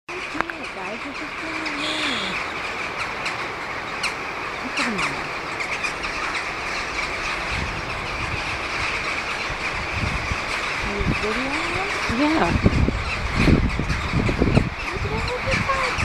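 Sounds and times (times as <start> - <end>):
crows calling: 0.1 - 16.0.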